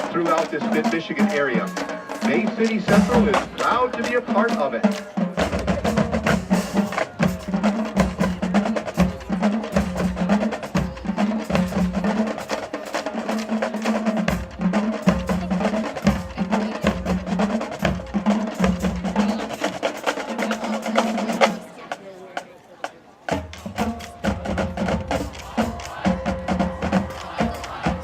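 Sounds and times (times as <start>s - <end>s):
drumline playing cadence: 0.0s - 28.0s.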